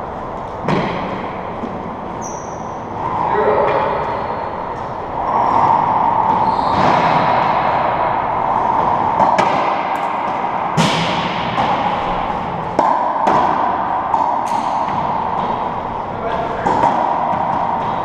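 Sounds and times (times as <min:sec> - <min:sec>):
steady background noise: 0:00.0 - 0:18.0
racquet striking ball: 0:00.6 - 0:18.0.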